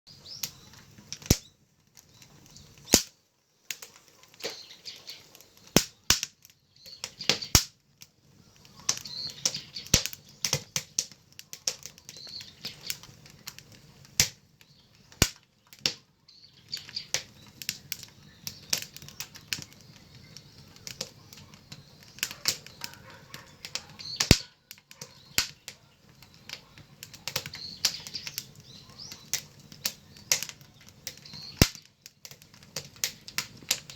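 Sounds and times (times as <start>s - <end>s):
firewood crackling and popping: 0.1s - 33.9s.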